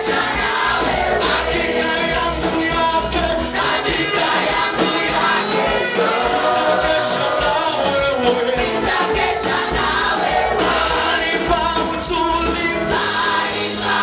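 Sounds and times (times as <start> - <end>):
gospel band with voices singing: 0.0 - 14.0.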